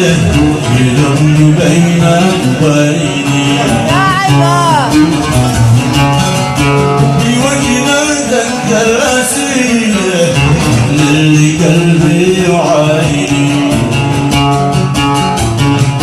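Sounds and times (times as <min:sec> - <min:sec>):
plucked strings melody: 0:00.0 - 0:16.0.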